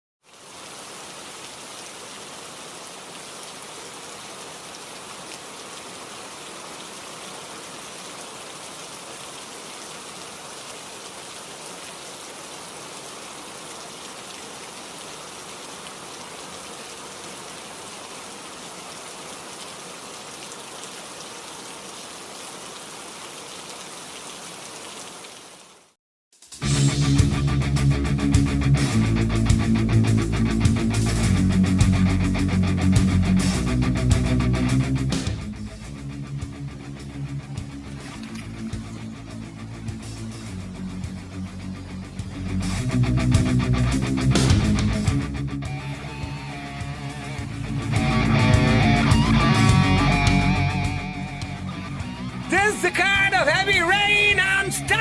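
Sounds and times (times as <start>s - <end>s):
heavy rain falling: 0.2s - 26.0s, 26.8s - 55.0s.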